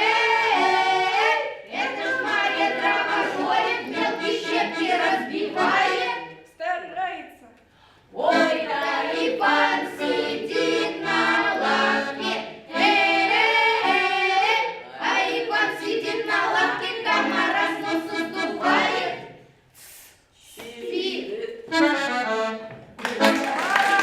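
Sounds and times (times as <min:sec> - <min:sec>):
children's choir singing: 0:00.0 - 0:06.6, 0:08.1 - 0:19.5, 0:20.5 - 0:22.2.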